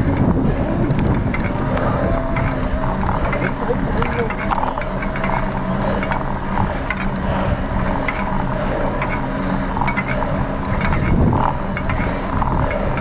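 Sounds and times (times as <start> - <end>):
bicycle rattling on rough trail: 0.0 - 13.0
steady low hum: 0.0 - 13.0.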